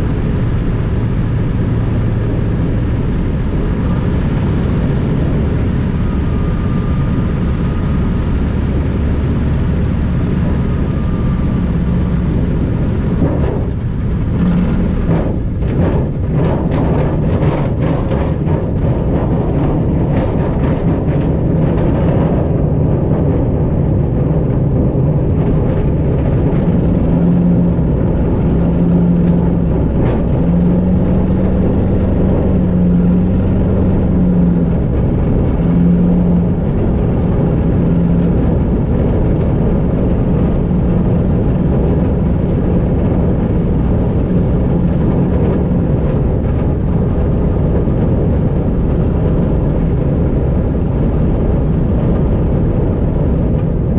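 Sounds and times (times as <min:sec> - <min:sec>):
light aircraft engine drone: 0:00.0 - 0:53.9.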